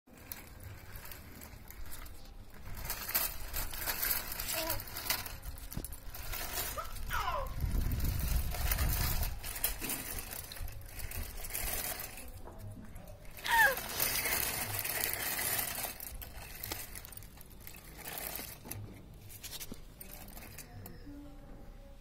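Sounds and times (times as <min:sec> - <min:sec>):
plastic wheels rolling on concrete: 0:00.1 - 0:21.7.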